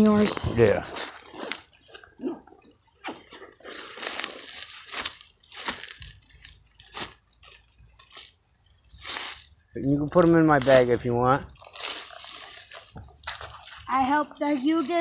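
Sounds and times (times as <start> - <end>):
plants being handled: 0.0 - 15.0
plastic bag rustling: 0.0 - 15.0.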